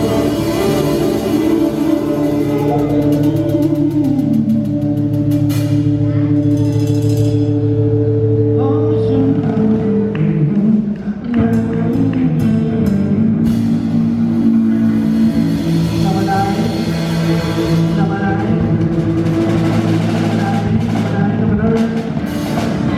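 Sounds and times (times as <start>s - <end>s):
live rock band playing: 0.0s - 10.5s, 11.1s - 22.9s
person singing: 0.0s - 22.9s.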